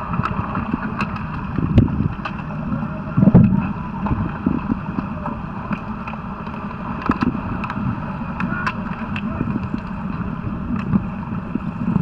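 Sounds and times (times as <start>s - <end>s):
muffled churning water: 0.0s - 12.0s.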